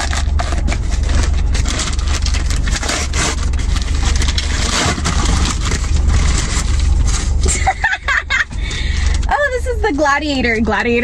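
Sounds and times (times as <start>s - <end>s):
paper mailer tearing: 0.0s - 9.2s
steady low hum: 0.0s - 11.0s.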